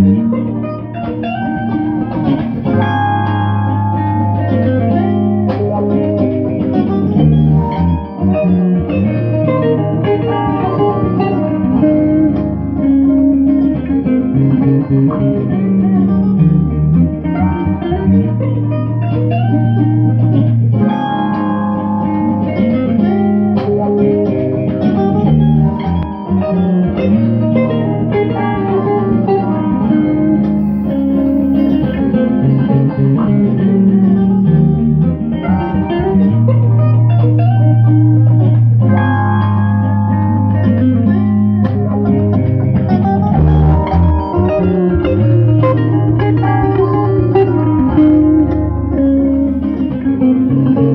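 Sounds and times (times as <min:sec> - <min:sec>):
bass guitar notes: 0:00.0 - 0:50.9
electric guitar chords: 0:00.0 - 0:50.9.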